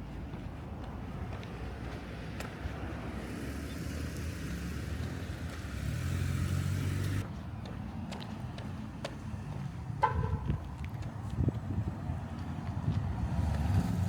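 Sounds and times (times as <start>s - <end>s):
road vehicle passing: 0.0s - 14.0s.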